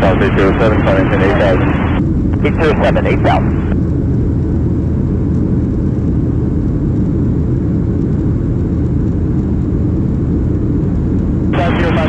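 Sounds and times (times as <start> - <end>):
jet airliner engines rumbling: 0.0 - 12.0.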